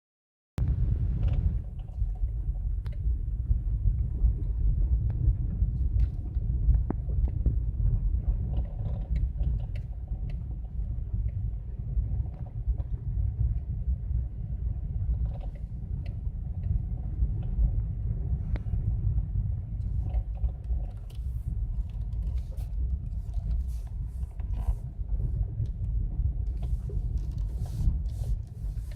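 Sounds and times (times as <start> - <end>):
car driving low rumble: 0.6 - 28.9.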